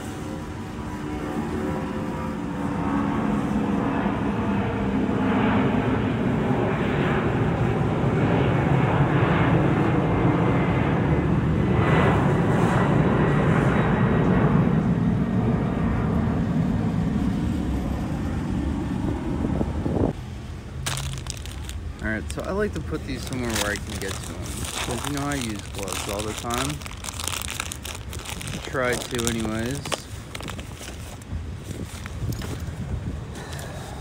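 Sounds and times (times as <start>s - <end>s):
airplane engine drone overhead: 0.0s - 34.0s.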